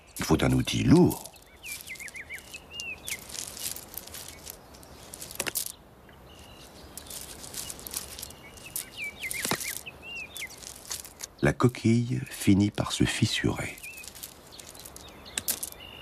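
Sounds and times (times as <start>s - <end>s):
gravel crunching: 0.0s - 16.0s
small birds chirping: 0.0s - 16.0s.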